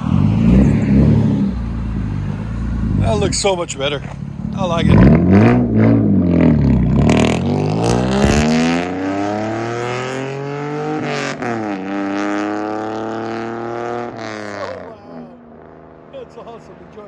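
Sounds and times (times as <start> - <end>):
car exhaust accelerating hard: 0.0 - 16.1.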